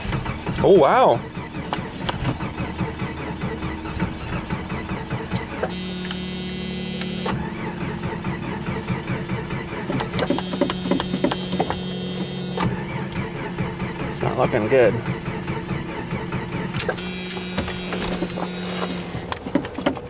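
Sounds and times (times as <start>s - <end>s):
engine cranking slowly: 0.0s - 20.0s.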